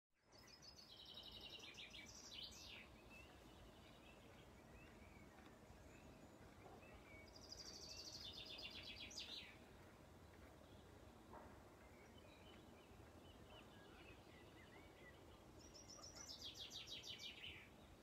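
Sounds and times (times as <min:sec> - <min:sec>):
songbird singing trilled phrases: 0:00.3 - 0:06.2, 0:06.9 - 0:09.6, 0:11.9 - 0:17.8.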